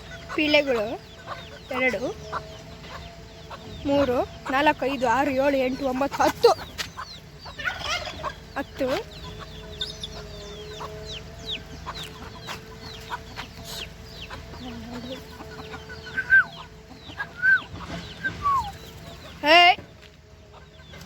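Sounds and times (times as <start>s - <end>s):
chickens clucking: 0.0s - 21.0s
chicks peeping: 0.0s - 21.0s
loud chicken calls: 0.0s - 21.0s.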